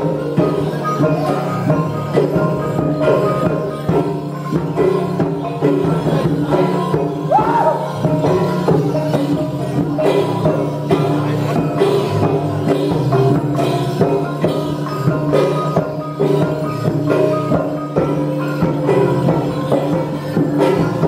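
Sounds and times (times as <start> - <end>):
gong and drum ensemble: 0.0 - 21.0.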